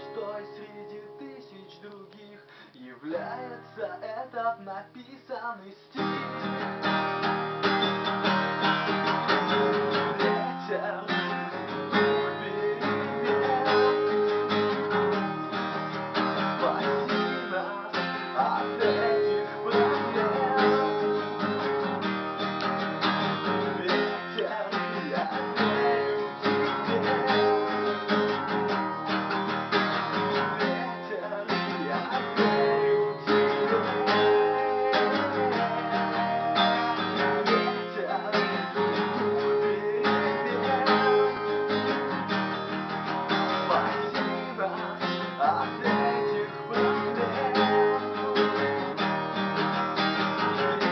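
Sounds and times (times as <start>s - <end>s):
acoustic guitar strumming: 0.0s - 50.9s.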